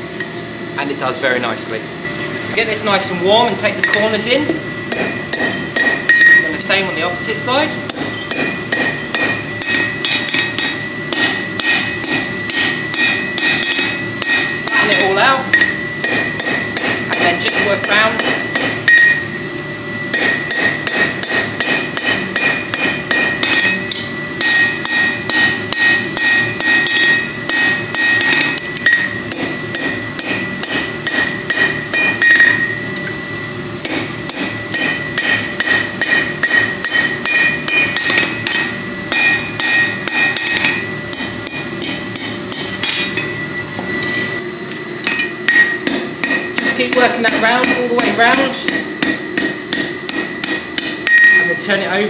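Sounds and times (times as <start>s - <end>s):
anvil ringing: 3.6s - 6.9s, 7.9s - 19.4s, 20.0s - 44.3s, 45.0s - 51.6s
hammer striking steel on anvil: 3.6s - 6.9s, 7.8s - 19.4s, 20.1s - 44.4s, 45.0s - 51.6s.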